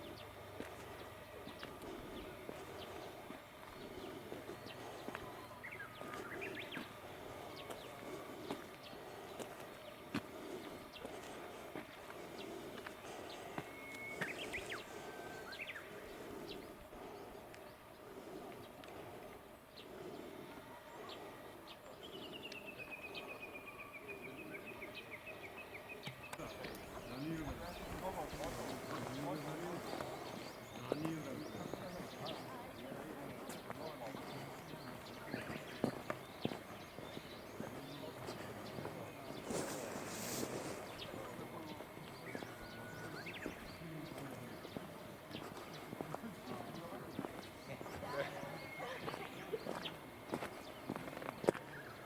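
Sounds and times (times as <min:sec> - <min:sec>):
bird chirps: 0:00.0 - 0:17.8, 0:20.5 - 0:52.0
low steady murmur: 0:00.0 - 0:52.0.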